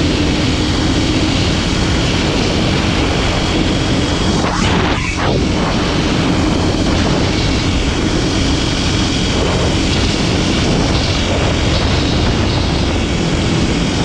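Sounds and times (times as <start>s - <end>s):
motorcycle engine running: 0.0s - 14.0s
steady rushing noise: 0.0s - 14.0s.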